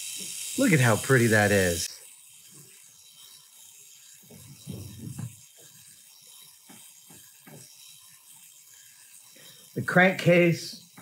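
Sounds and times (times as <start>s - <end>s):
model engine clicking: 0.0s - 11.0s.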